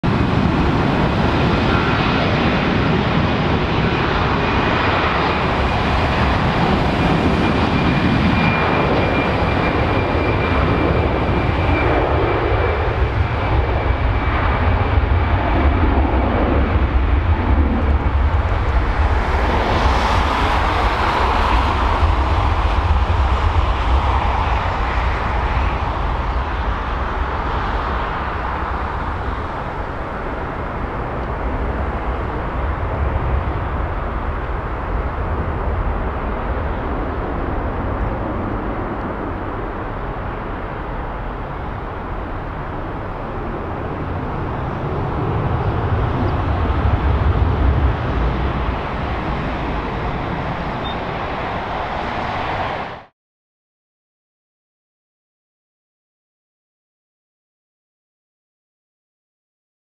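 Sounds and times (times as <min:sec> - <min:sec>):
high engine whine: 0:00.0 - 0:53.1
jet engines at takeoff power: 0:00.0 - 0:53.1.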